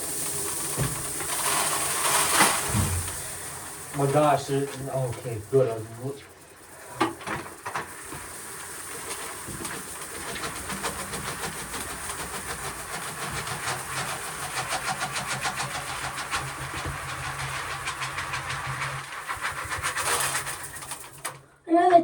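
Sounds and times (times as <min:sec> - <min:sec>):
corn sheller rattling: 0:00.0 - 0:21.5.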